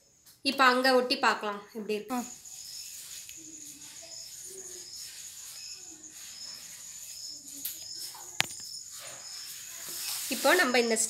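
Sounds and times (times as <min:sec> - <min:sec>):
insects chirping: 0:01.9 - 0:11.0.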